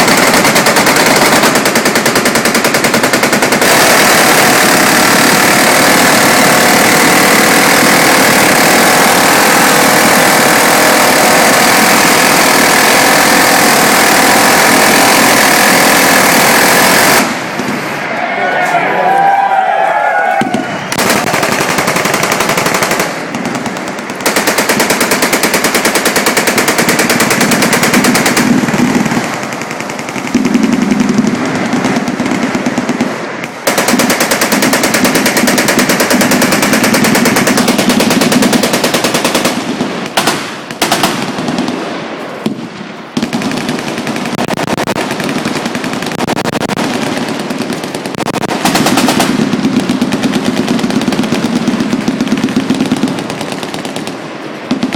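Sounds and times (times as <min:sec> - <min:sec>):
machine-gun fire: 0:00.0 - 0:17.9, 0:20.4 - 0:54.9.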